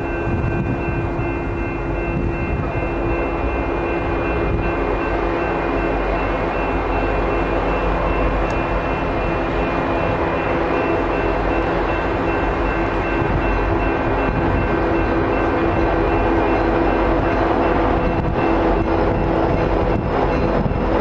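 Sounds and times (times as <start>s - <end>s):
steady tones: 0.0s - 21.0s
train passing rumble: 0.0s - 21.0s.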